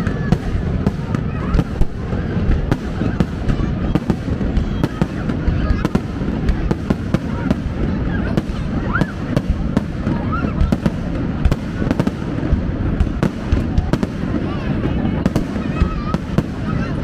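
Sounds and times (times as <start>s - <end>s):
continuous rumbling din: 0.0s - 17.0s
fireworks bangs and crackles: 0.0s - 17.0s.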